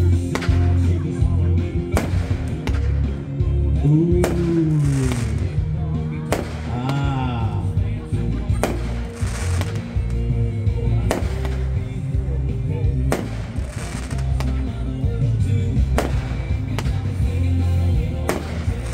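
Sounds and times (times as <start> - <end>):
fireworks bursting: 0.0 - 7.4, 8.3 - 18.9
music playing: 0.0 - 18.9.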